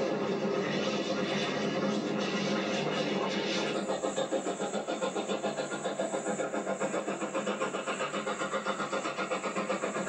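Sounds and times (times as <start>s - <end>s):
steam train running at speed: 0.0s - 10.0s.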